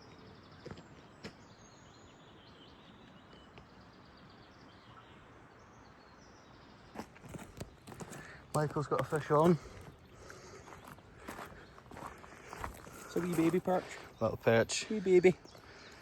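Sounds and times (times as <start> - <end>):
distant birds chirping: 0.0 - 16.0.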